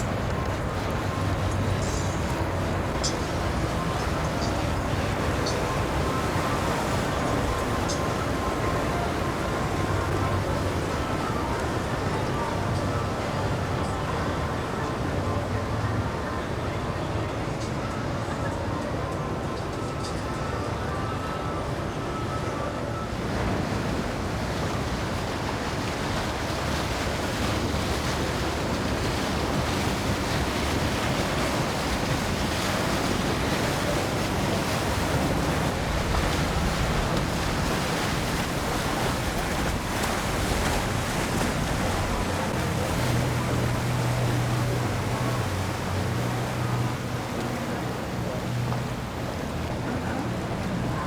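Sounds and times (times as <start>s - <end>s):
low engine hum: 0.0s - 51.0s
wind and water rushing: 0.0s - 51.0s.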